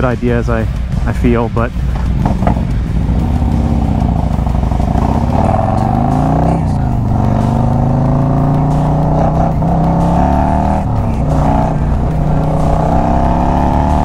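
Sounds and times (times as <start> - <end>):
motorcycle engine revving: 1.7 - 14.0.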